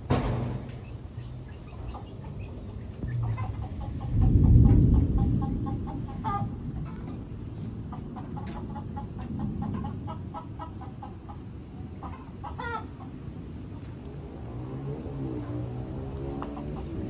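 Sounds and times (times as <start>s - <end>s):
chickens clucking: 0.0s - 15.5s, 16.1s - 17.0s.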